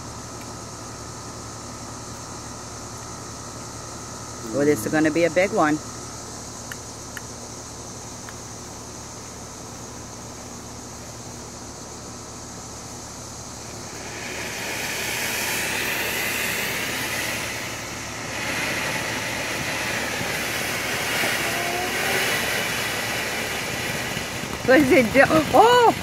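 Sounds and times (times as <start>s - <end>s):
fountain firework spraying hiss: 4.4s - 26.0s.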